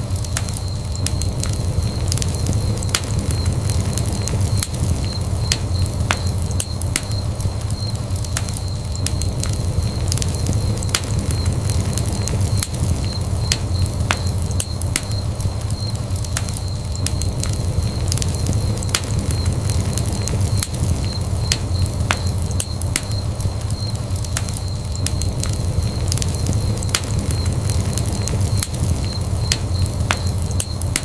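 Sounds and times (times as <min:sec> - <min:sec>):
fire crackling and popping: 0:00.0 - 0:31.0
low roar of flames: 0:00.0 - 0:31.0.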